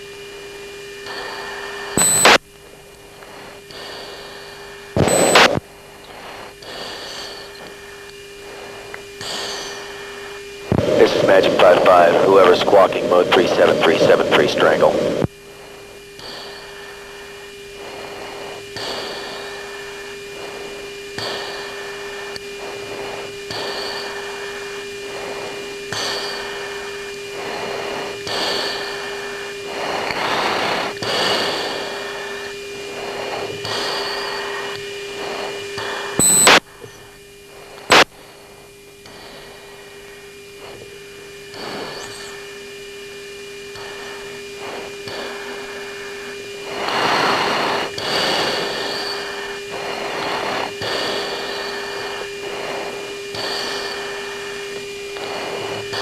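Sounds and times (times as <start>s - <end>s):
electrical hum: 0.0s - 56.0s.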